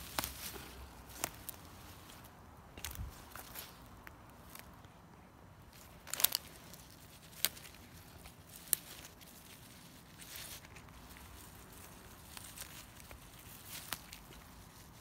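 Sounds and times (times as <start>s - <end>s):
plant stems snapping: 0.0s - 2.2s, 2.8s - 4.8s, 5.7s - 15.0s
leaves rustling: 0.0s - 15.0s.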